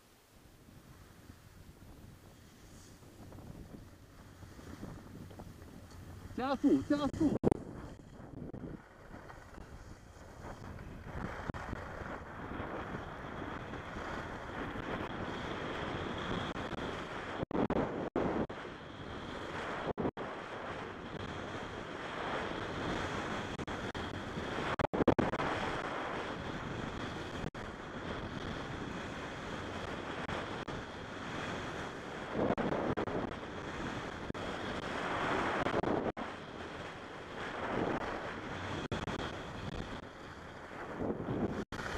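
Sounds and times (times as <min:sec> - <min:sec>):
wind rushing over microphone: 0:00.0 - 0:41.9
skis sliding on packed snow: 0:00.9 - 0:17.4, 0:18.0 - 0:41.9.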